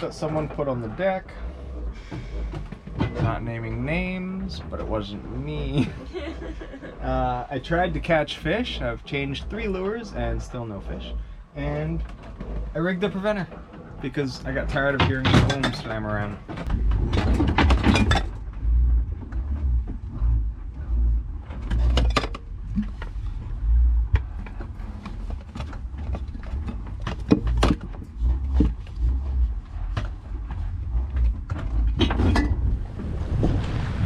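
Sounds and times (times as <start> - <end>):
knocks and clicks of gear: 0.0 - 6.8, 7.6 - 33.0
gusty low rumble: 0.0 - 34.0.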